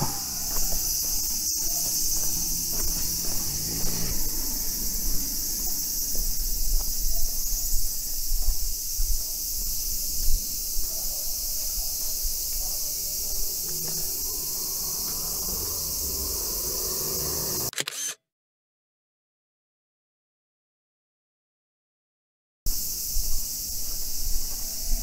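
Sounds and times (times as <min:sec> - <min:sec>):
shrill insect chorus: 0:00.0 - 0:17.7, 0:22.7 - 0:25.0.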